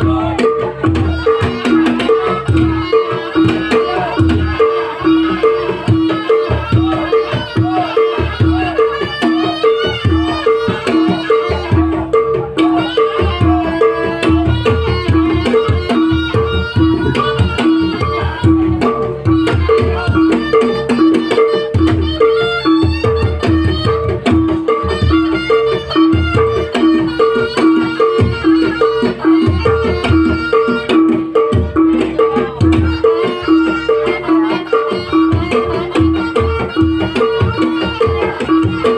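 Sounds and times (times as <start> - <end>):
hand drums: 0.0 - 38.9
melody line: 0.0 - 38.9
pitched percussion figure: 0.0 - 38.9.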